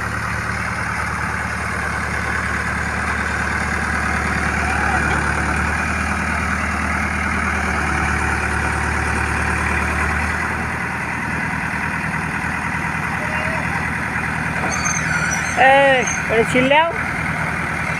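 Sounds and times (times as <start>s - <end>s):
excavator diesel engine idling: 0.0s - 17.9s.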